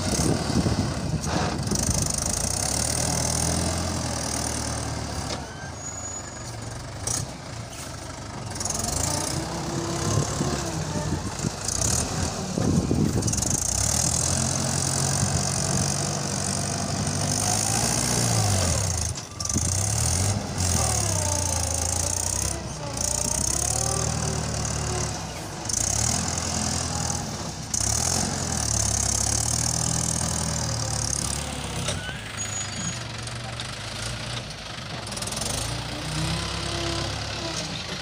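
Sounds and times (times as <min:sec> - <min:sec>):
loader digging sand: 0:00.0 - 0:38.0
tractor diesel engine under load: 0:00.0 - 0:38.0.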